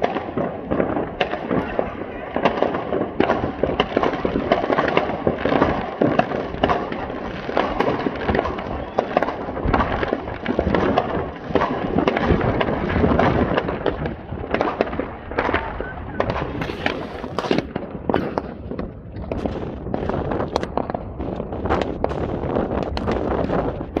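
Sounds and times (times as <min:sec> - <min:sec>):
fireworks crackling and popping: 0:00.0 - 0:24.0
sharp firework reports: 0:00.0 - 0:24.0.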